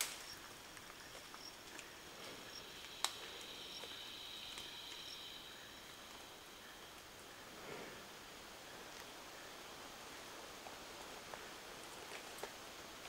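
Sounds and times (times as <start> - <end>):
insects buzzing: 0.0 - 11.8.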